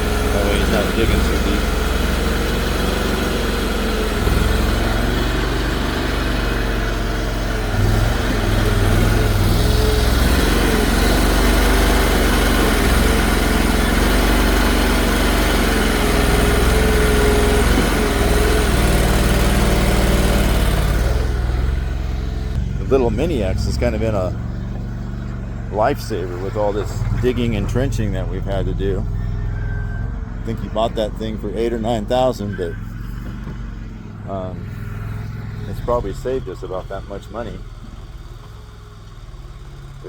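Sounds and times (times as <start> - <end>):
excavator engine humming: 0.0 - 40.0
hydraulic whine: 0.0 - 40.0.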